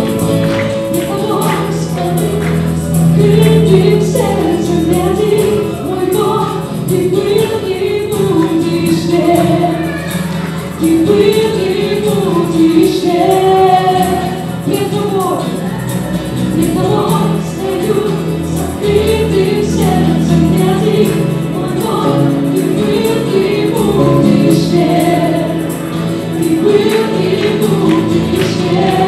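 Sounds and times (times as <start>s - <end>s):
acoustic guitar: 0.0s - 29.0s
group singing into microphones: 0.0s - 29.0s
keyboard: 0.0s - 29.0s.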